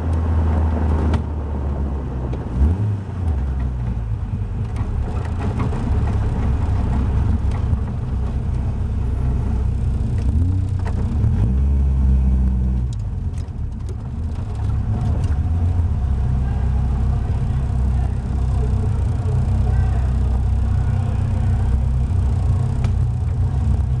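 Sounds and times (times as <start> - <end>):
car engine running at low revs: 0.0 - 24.0.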